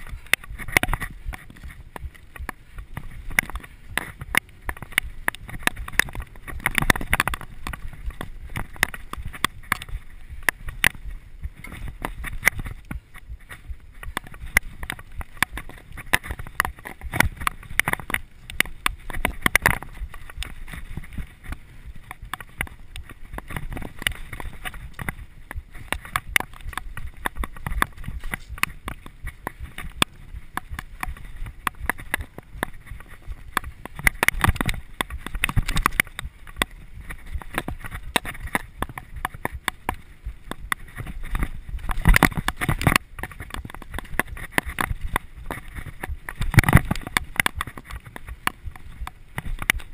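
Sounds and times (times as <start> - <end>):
bike frame rattling and clicking: 0.0 - 49.9
bike tyres rumbling over dirt: 0.0 - 49.9.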